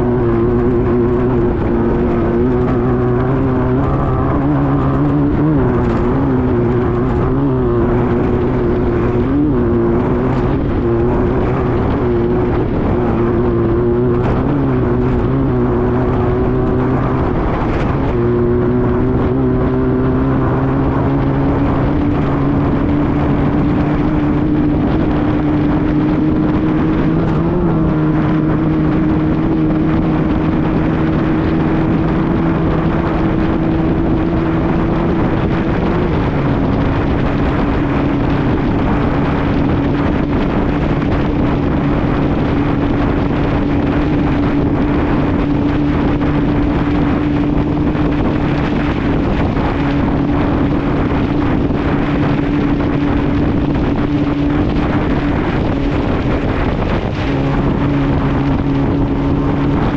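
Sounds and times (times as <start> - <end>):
buggy engine running at speed: 0.0 - 59.9
wind and road noise: 0.0 - 59.9.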